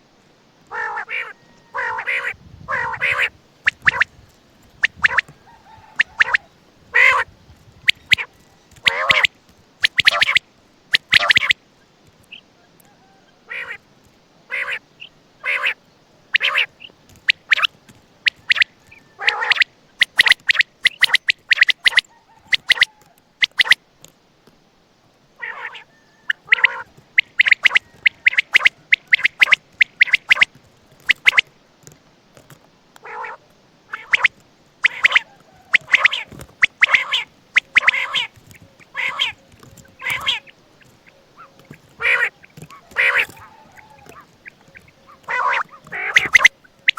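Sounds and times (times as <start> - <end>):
quail calling: 0.7 - 11.6, 12.2 - 13.8, 14.5 - 23.8, 25.4 - 31.5, 33.0 - 46.9.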